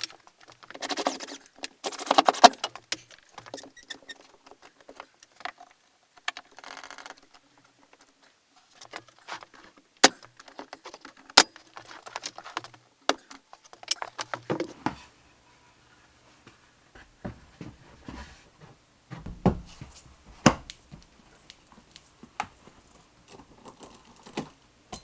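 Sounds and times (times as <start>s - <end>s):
wooden boards and tools handled: 0.0s - 15.1s, 16.5s - 24.6s.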